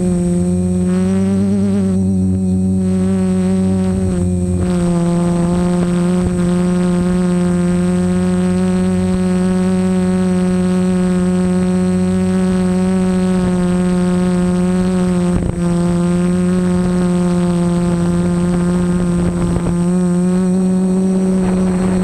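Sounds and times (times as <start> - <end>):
drone propellers humming: 0.0 - 22.0.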